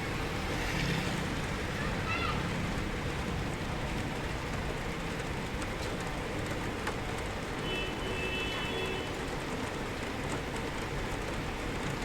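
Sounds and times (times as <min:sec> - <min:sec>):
rain drops tapping: 0:01.2 - 0:12.0.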